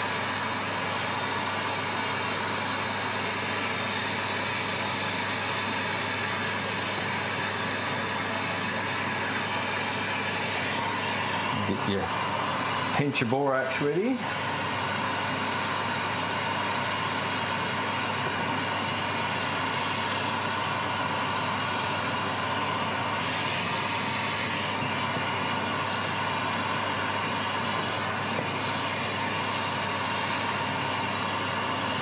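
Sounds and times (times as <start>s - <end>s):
exhaust fan humming: 0.0s - 32.0s
torch flame rushing: 0.0s - 32.0s.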